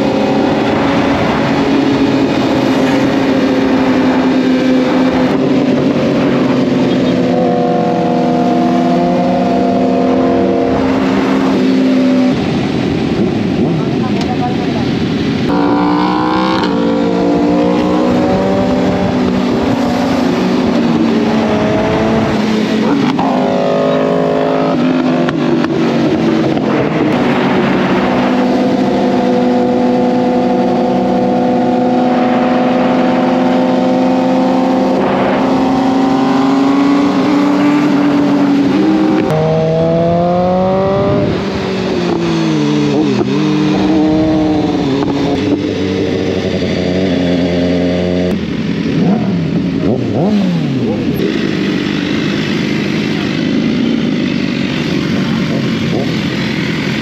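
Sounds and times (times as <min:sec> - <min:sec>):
motorbike revs: 0:00.0 - 0:57.0
sport bike engines running: 0:00.0 - 0:57.0.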